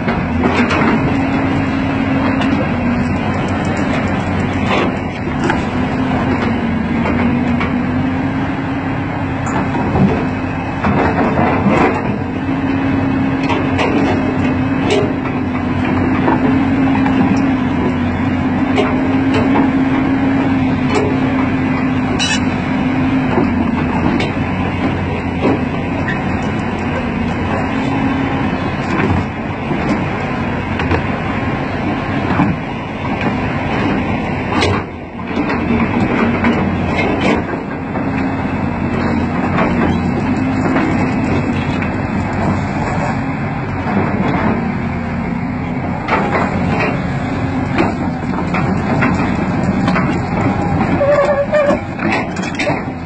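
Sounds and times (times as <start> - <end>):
metallic clanks of crawler track: 0.0 - 1.6, 2.2 - 7.8, 9.4 - 12.2, 13.4 - 18.0, 18.6 - 20.0, 20.8 - 22.6, 23.3 - 28.0, 28.6 - 30.2, 32.2 - 44.8, 45.7 - 53.0
excavator diesel engine running: 0.0 - 53.0.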